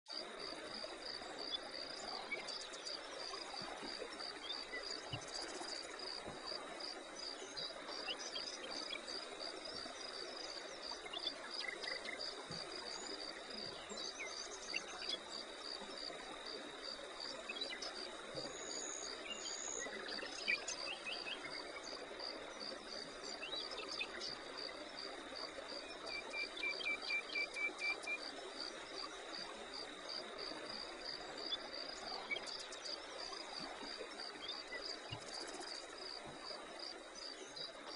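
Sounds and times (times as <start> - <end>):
continuous insect trill: 0.1 - 37.9
insects chirping: 0.1 - 37.9.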